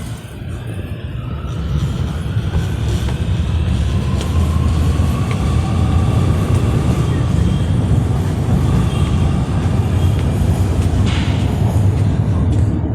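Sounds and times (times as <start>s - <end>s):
subway train rumbling: 0.0s - 12.9s.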